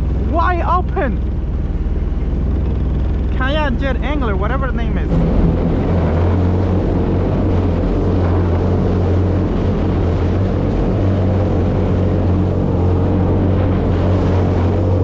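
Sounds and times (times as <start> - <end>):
jet kayak engine humming: 0.0 - 15.0
water noise: 0.0 - 15.0
wind noise: 0.0 - 15.0.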